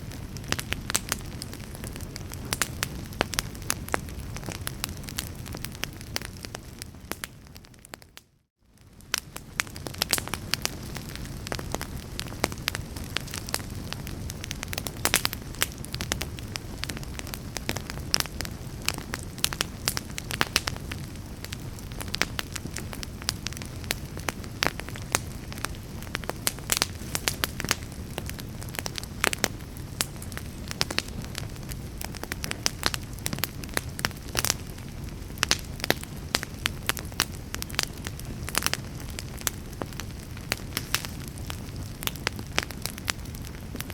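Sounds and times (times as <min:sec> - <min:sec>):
low fire rumble: 0:00.0 - 0:43.9
wood fire crackling and popping: 0:00.0 - 0:43.9.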